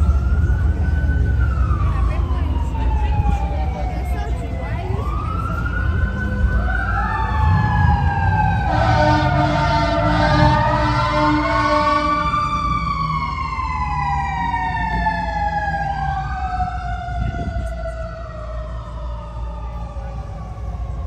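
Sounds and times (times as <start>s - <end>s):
emergency sirens wailing: 0.0s - 21.0s.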